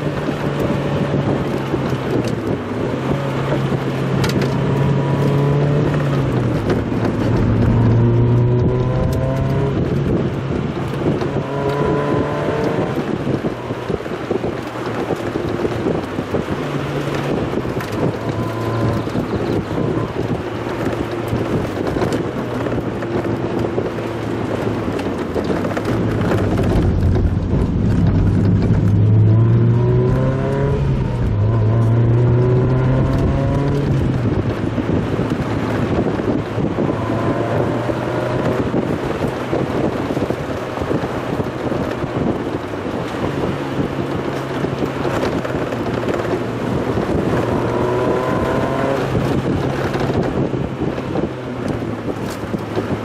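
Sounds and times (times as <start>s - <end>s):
car engine revving: 0.0s - 53.0s
road and wind noise: 0.0s - 53.0s.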